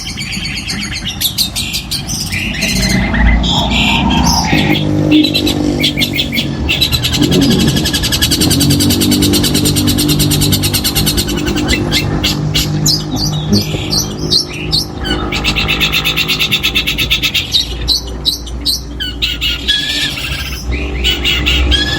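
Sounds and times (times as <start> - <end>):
bird chattering song: 0.0 - 21.9.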